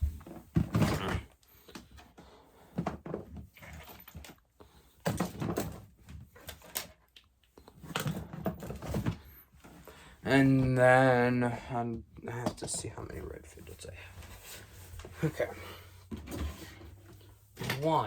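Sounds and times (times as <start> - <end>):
toys rustling and clattering: 0.0 - 11.0, 12.2 - 18.0.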